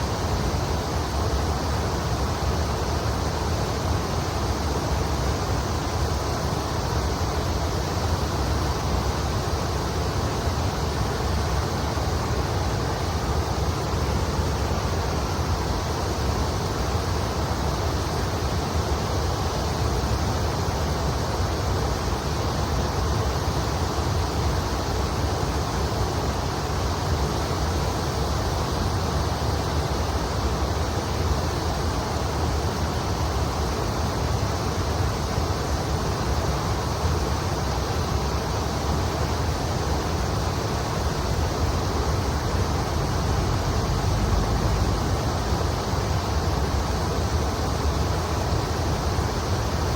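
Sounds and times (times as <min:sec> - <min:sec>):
river water rushing: 0:00.0 - 0:49.9.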